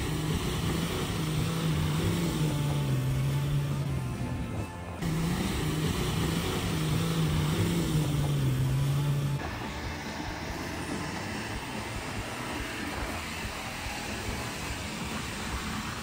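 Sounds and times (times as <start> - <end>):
diesel engine working hard: 0.0 - 16.0.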